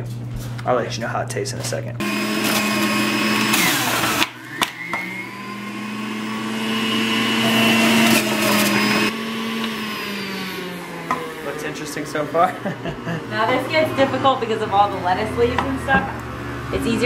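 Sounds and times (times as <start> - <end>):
juicer motor whining: 2.0 - 17.0.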